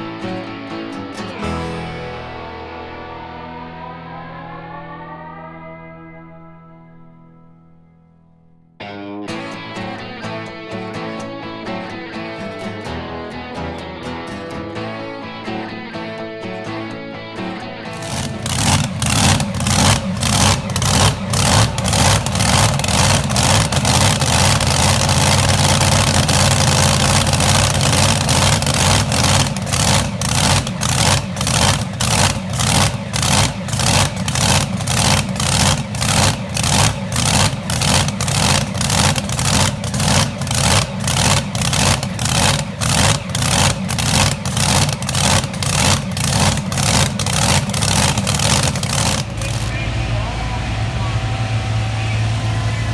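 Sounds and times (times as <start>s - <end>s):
pulsing engine running hard: 9.4s - 52.9s.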